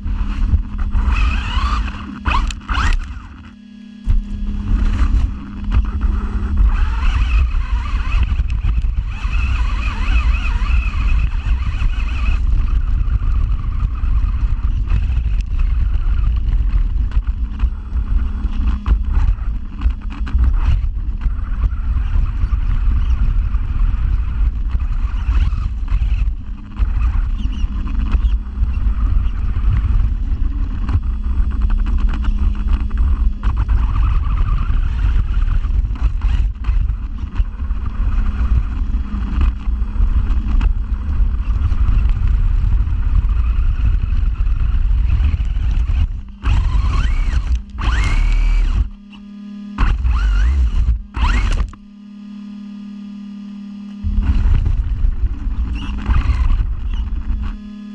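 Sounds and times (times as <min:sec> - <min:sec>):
heavy rumble: 0:00.0 - 0:57.9
rc car motor running: 0:00.0 - 0:57.9.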